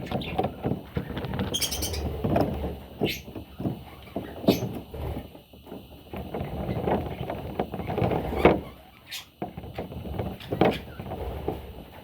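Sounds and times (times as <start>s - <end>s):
small knocks: 0.0s - 11.6s
chicks scratching and rustling: 0.0s - 12.0s.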